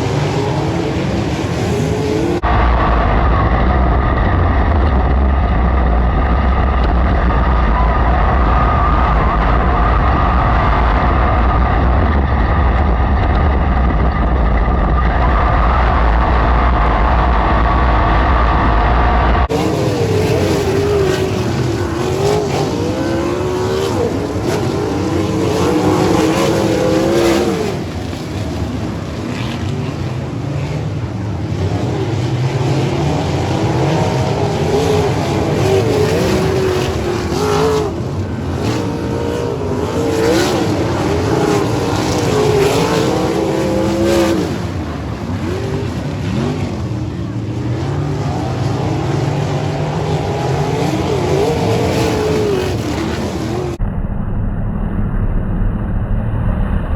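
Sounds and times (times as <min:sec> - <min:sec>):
race car engines roaring: 0:00.0 - 0:53.9.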